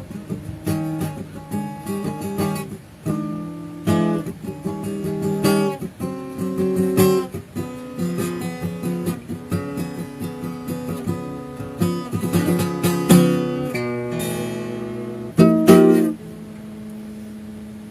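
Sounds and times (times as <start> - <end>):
guitar picked notes and chords: 0.0 - 17.9.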